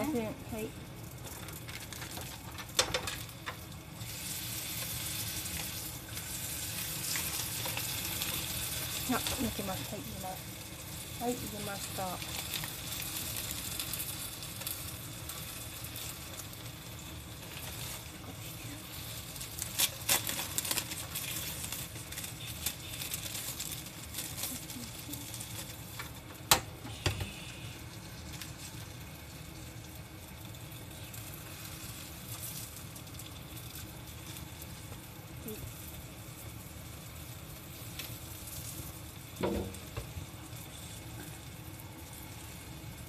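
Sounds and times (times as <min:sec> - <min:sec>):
food sizzling in oil: 0:00.0 - 0:43.0.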